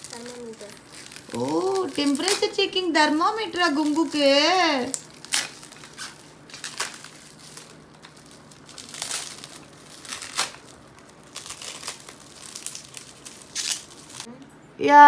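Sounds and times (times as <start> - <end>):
packaging crinkling: 0.0 - 14.4.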